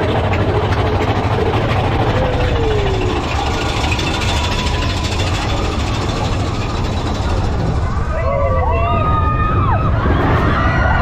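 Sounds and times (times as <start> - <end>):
roller coaster wheels rumbling: 0.0 - 11.0.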